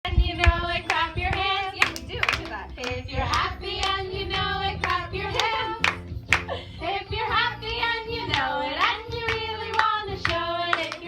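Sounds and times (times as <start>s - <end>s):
group singing: 0.1s - 11.0s
rhythmic hand clapping: 0.4s - 6.6s, 8.2s - 11.0s.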